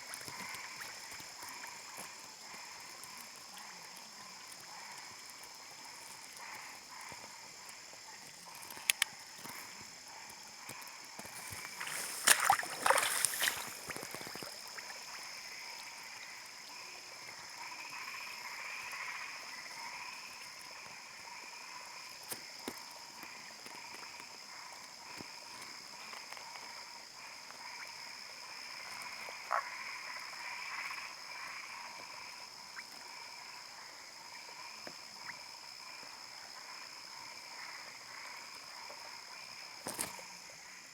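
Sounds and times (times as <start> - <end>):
frogs croaking: 0.0 - 40.9.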